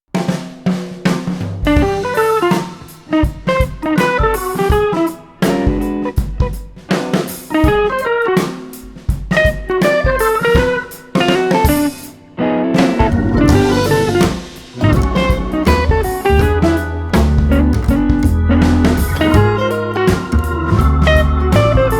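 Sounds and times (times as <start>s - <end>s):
drum kit beat: 0.1s - 12.2s, 12.8s - 21.9s
electric guitar tune: 1.7s - 21.9s.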